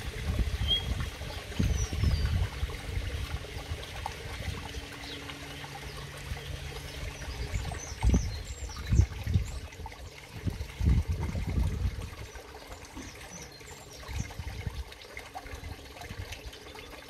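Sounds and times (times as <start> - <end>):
water splashing into pond: 0.0 - 17.0.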